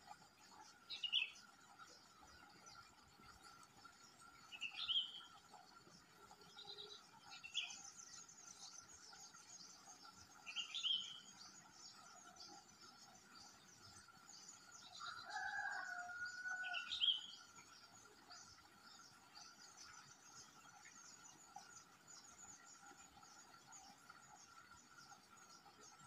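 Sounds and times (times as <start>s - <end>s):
bird chirping: 0.5s - 26.0s.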